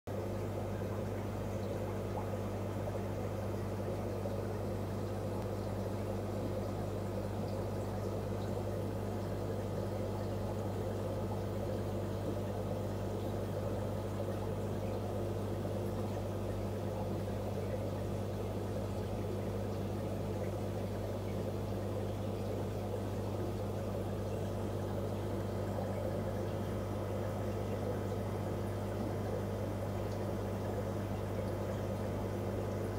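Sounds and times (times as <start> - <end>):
aquarium filter humming: 0.1 - 32.9
bubbling churning water: 0.1 - 32.9.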